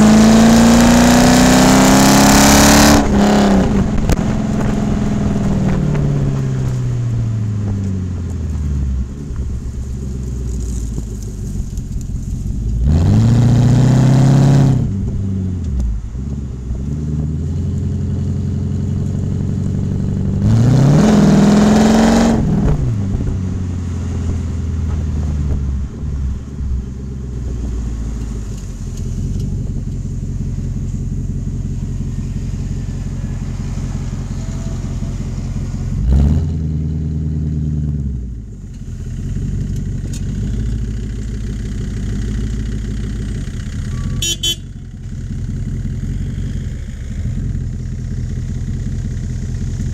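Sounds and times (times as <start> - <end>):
car engine revving and idling: 0.0 - 49.9.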